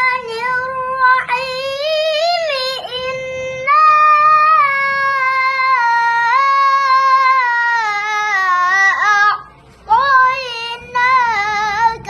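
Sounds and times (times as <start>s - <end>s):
child chanting recitation: 0.0s - 12.0s.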